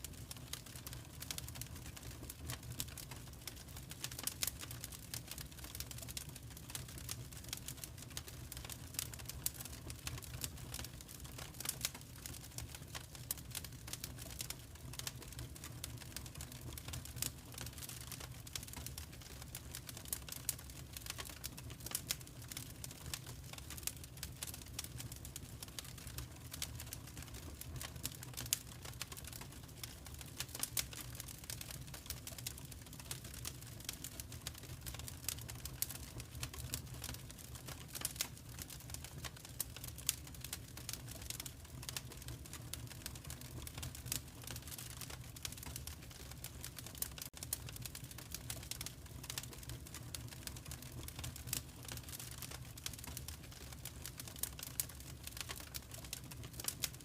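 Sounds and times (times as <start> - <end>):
log fire crackling: 0.0 - 57.0.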